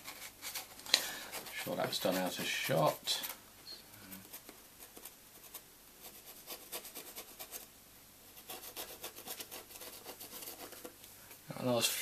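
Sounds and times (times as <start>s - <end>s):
faint rubbing and scratching on foam: 0.0s - 3.4s, 4.0s - 7.7s, 8.3s - 11.0s.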